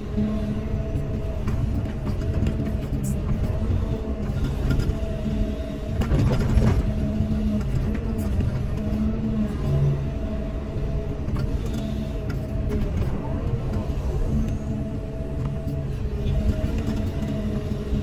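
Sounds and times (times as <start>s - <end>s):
excavator engine and hydraulics: 0.0s - 18.0s.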